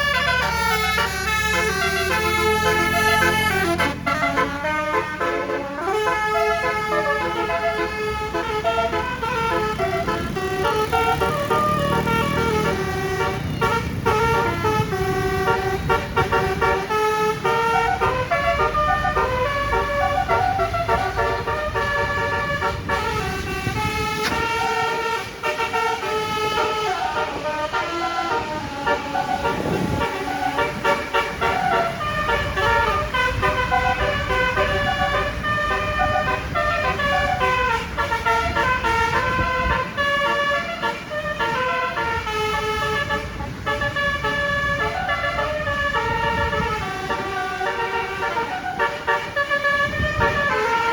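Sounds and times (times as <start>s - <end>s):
low rumble of engine and traffic: 0.0s - 50.9s
multi-trumpet bus horn melody: 0.0s - 50.9s.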